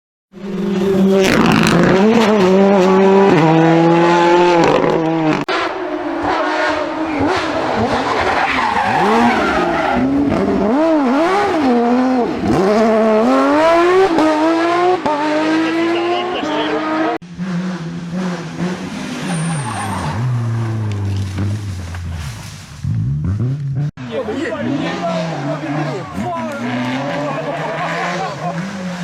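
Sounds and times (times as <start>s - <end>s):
rally car engines revving: 0.4s - 29.0s
tyres skidding: 0.4s - 29.0s.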